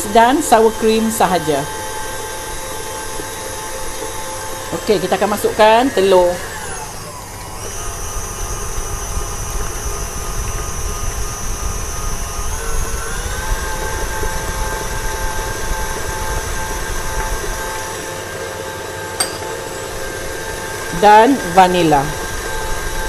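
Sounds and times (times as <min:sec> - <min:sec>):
electric mixer whining: 0:00.0 - 0:23.0.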